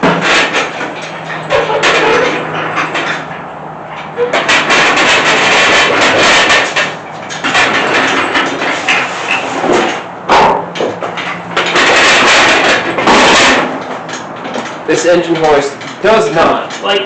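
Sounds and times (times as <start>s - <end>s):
engine hoist scraping and rattling: 0.0s - 17.0s.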